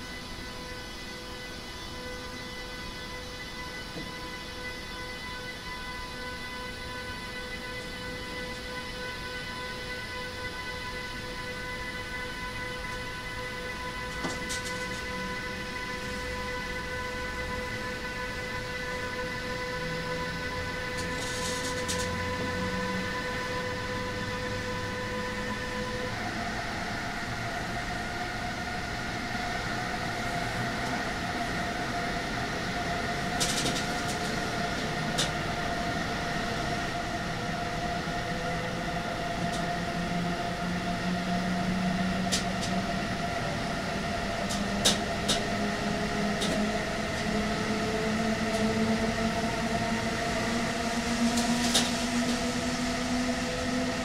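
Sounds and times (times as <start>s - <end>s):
electric train motor whine: 0.0s - 54.0s.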